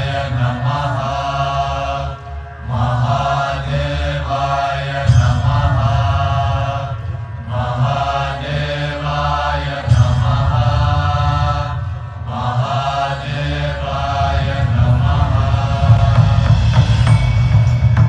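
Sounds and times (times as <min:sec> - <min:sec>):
person chanting: 0:00.0 - 0:17.2
deep steady drone: 0:00.0 - 0:18.0.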